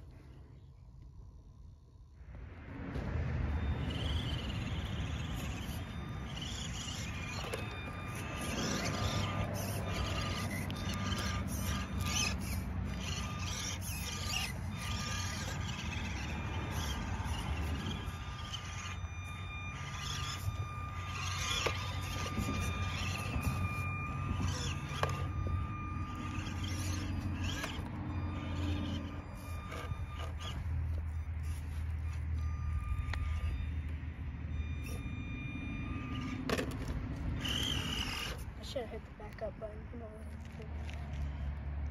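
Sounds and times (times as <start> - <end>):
tires scraping on rock: 2.8 - 41.9
toy car motor whining: 3.5 - 41.9.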